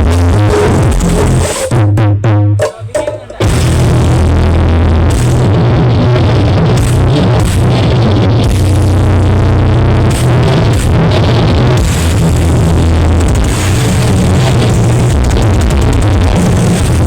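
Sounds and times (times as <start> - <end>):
electronic dance music with booming bass: 0.0 - 17.0.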